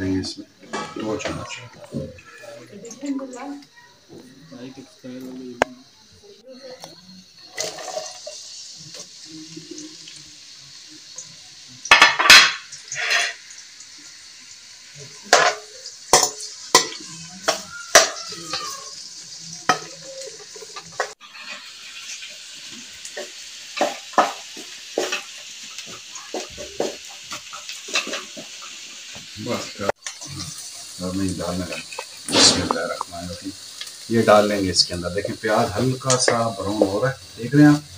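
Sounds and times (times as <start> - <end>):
onions sizzling in oil: 0.0 - 37.9.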